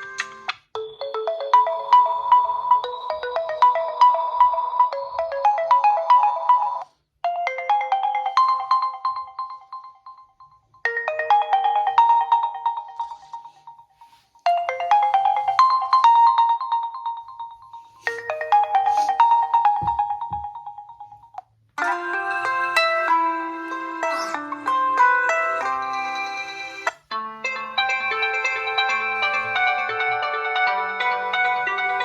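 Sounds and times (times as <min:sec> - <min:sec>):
phone ringtone plucked melody: 0:00.0 - 0:32.0.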